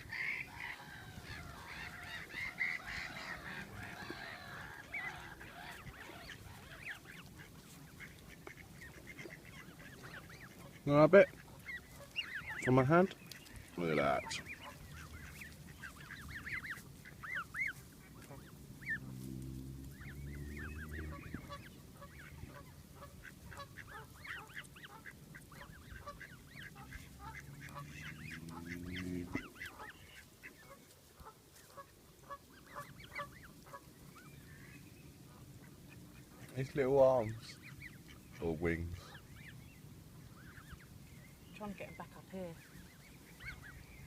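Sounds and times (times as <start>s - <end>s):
geese honking: 0.0s - 44.0s.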